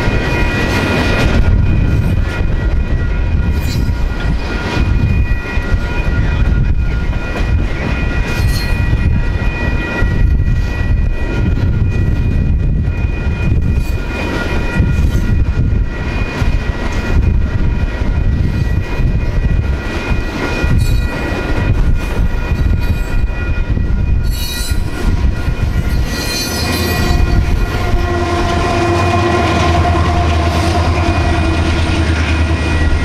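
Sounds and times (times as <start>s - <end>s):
high-pitched ringing tones: 0.0s - 33.0s
train wheels rumbling on rail: 0.0s - 33.0s.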